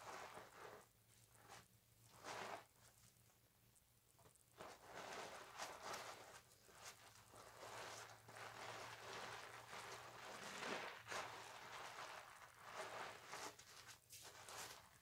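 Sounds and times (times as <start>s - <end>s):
loofah scrubbing soap: 0.0s - 2.9s, 4.2s - 15.0s.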